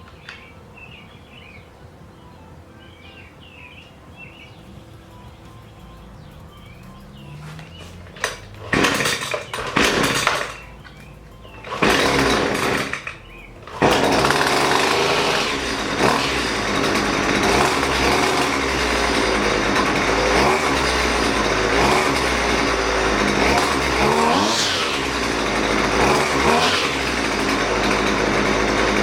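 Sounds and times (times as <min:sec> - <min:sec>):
string trimmer engine starting: 0:04.8 - 0:29.0.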